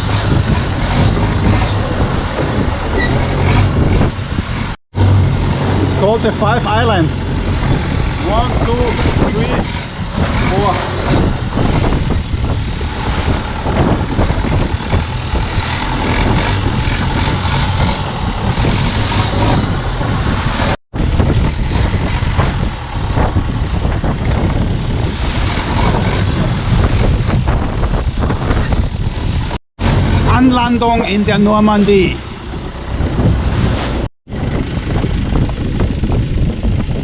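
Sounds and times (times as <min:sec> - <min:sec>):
boat engine running: 0:00.0 - 0:37.0
choppy sea: 0:00.0 - 0:37.0
wind buffeting microphone: 0:00.0 - 0:37.0.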